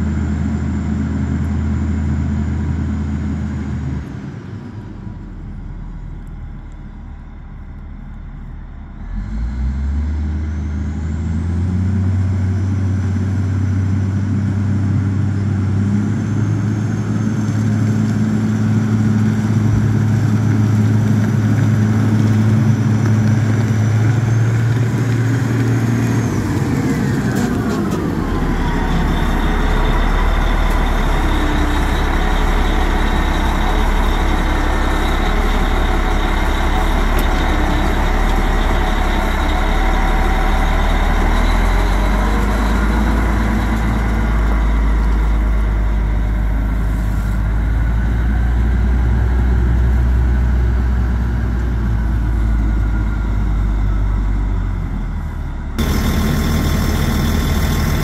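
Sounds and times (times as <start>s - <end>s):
wheel loader diesel engine: 0.0s - 58.0s.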